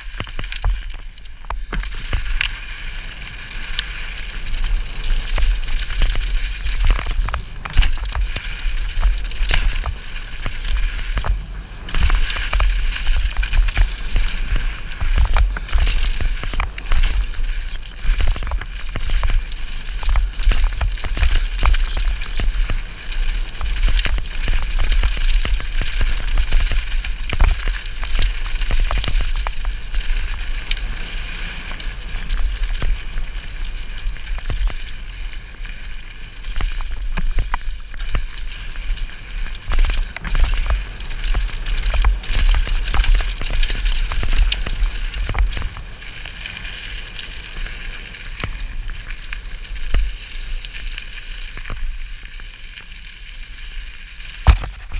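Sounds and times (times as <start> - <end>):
bike rattling over bumps: 0.0 - 54.9
bike tyres rumbling on dirt: 0.0 - 54.9.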